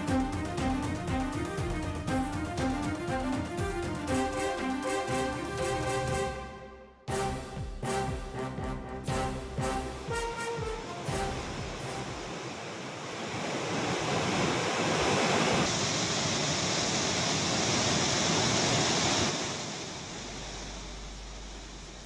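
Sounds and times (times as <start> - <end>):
floodwater rushing in river: 0.0 - 6.5, 9.1 - 22.0.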